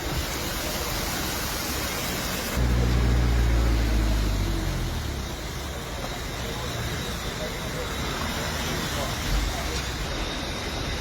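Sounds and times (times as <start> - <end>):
steady rushing hiss: 0.0 - 11.0
vehicle engine rumble: 0.0 - 11.0.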